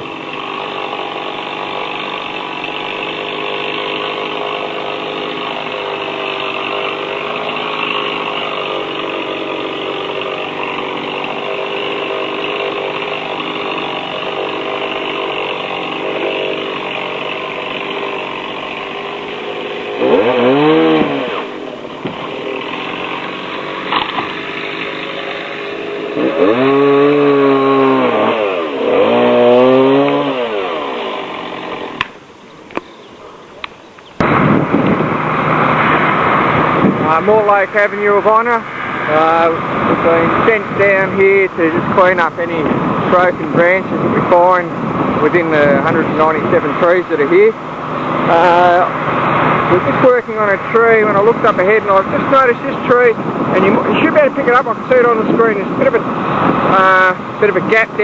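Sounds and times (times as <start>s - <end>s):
chainsaw running and revving: 0.0s - 32.2s, 34.2s - 58.0s.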